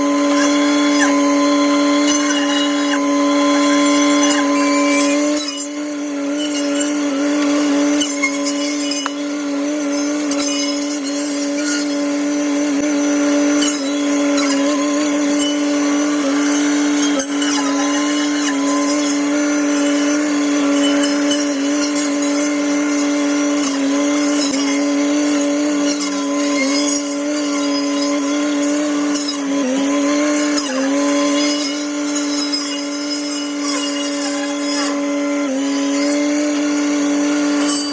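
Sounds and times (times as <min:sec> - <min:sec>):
high-pitched hedgecutter blade: 0:00.0 - 0:37.9
tractor engine: 0:00.0 - 0:37.9.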